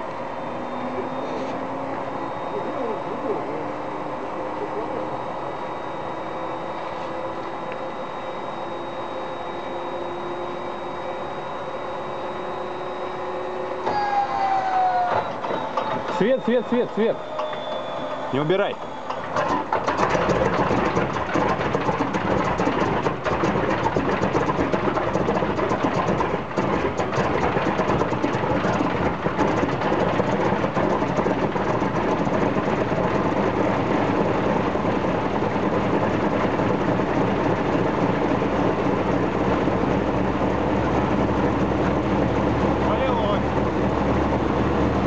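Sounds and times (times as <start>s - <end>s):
radial aircraft engine running: 0.0s - 45.0s.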